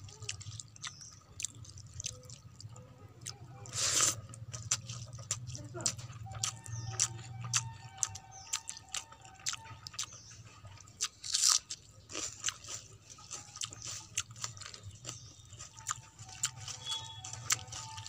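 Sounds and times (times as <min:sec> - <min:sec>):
chewing: 0:00.0 - 0:18.0
food clicks and crunches: 0:00.0 - 0:18.0.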